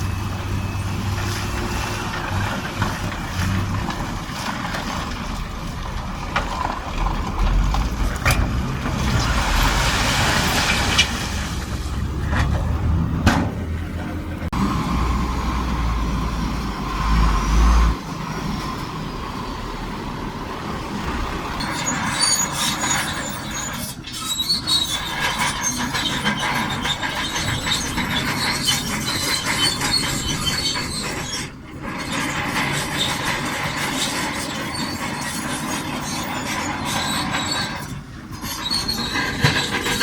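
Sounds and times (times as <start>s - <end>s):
steel tracks squealing and clanking: 0.0s - 14.3s, 20.9s - 40.0s
bulldozer engine rumbling: 0.0s - 40.0s.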